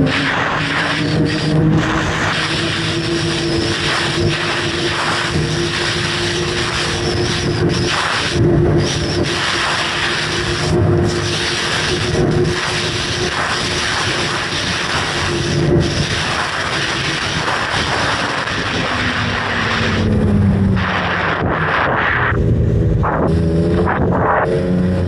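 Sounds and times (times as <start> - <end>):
snowmobile engine running: 0.0 - 25.0
wind and track rushing: 0.0 - 25.0.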